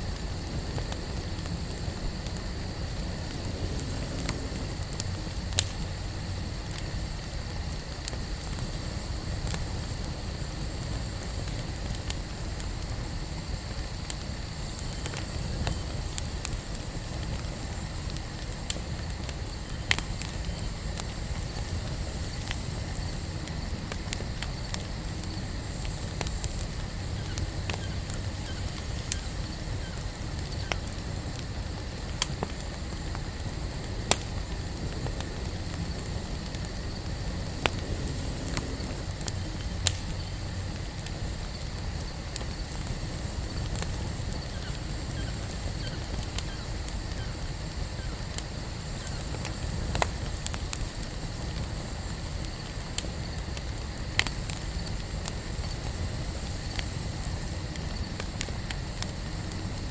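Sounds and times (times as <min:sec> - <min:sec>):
campfire crackling: 0:00.0 - 0:59.9.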